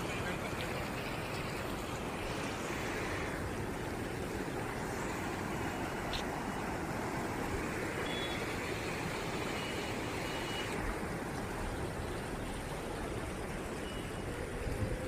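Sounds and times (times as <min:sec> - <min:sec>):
river floodwater rushing: 0:00.0 - 0:15.0.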